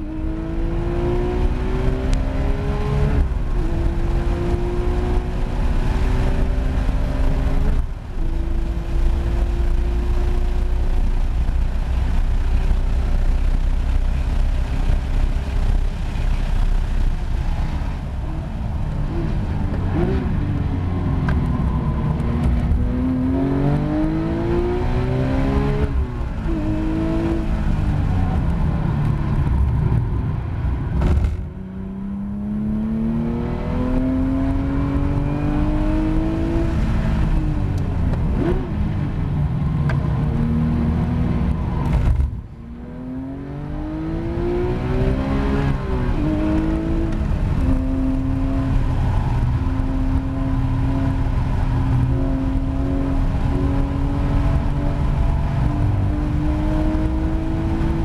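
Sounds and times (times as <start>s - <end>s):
car engine revving: 0.0s - 29.7s, 31.0s - 58.0s
wind and road noise: 0.0s - 58.0s.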